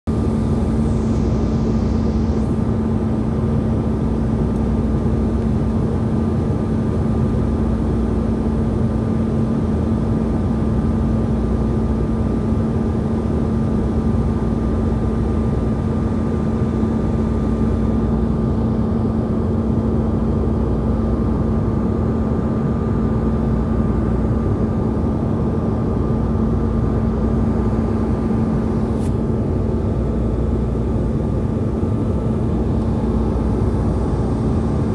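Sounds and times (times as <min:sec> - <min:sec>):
constant low hum: 0:00.1 - 0:34.9
engine and airflow roar: 0:00.1 - 0:34.9.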